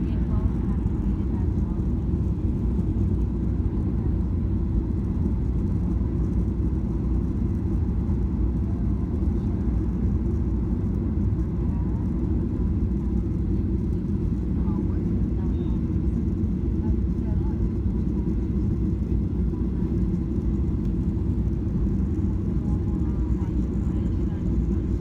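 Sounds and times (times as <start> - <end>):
airplane engines rumbling: 0.0 - 25.0.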